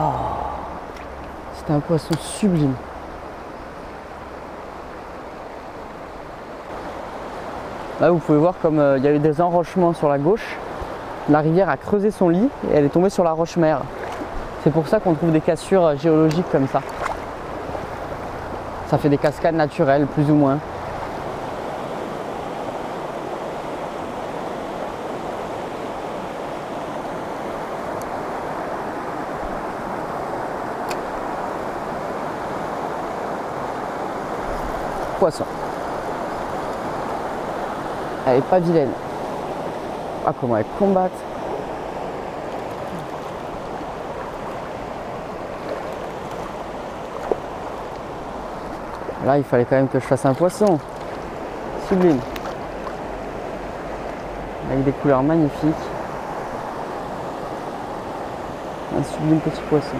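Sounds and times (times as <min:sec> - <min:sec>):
river rushing over stones: 0:00.0 - 0:59.9.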